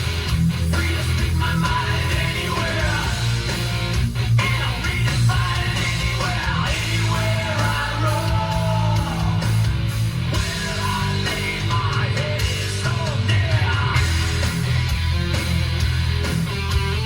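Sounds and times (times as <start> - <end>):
rock song on car stereo: 0.0 - 17.0.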